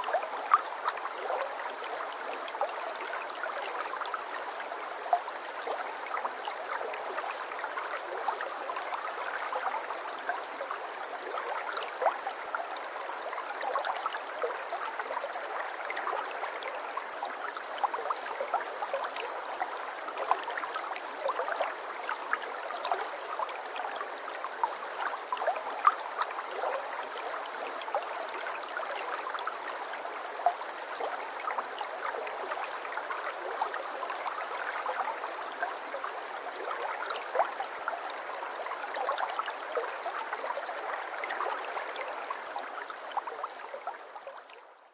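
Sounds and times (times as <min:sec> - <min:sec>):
brook babbling over stones: 0:00.0 - 0:44.9.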